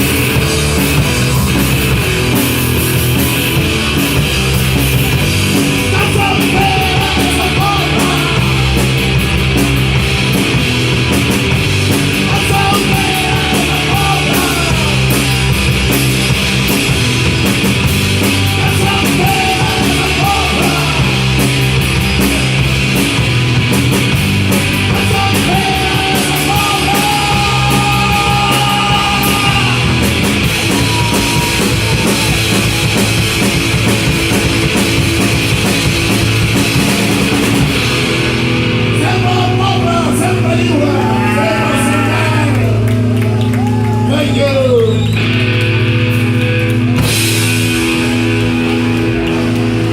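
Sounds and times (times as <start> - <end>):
bass guitar: 0.0 - 49.9
distorted electric guitars: 0.0 - 49.9
fast drum kit: 0.0 - 49.9.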